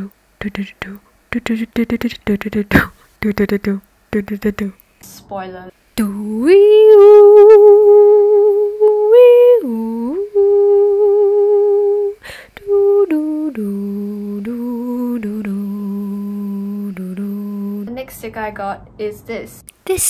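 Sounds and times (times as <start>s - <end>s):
woman singing wordless tune: 0.0s - 4.8s, 5.9s - 18.5s.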